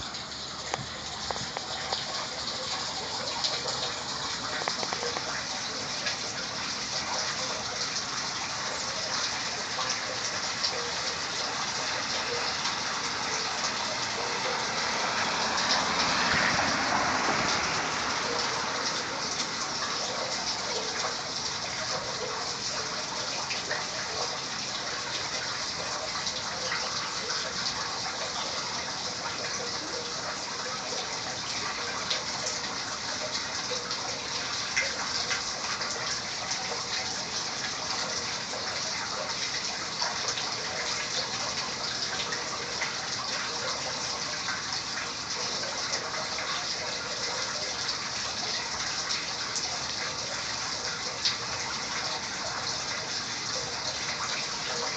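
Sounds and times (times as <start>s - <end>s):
small water drips: 0.0s - 54.9s
water gushing into storm drain: 0.0s - 54.9s.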